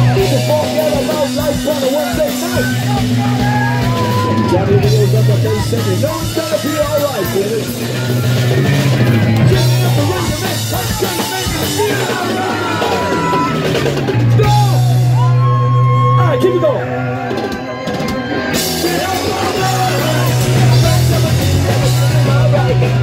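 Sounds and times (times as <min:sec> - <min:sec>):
electric guitar: 0:00.0 - 0:23.0
pounding drum kit: 0:00.0 - 0:23.0
punk rock band playing live: 0:00.0 - 0:23.0.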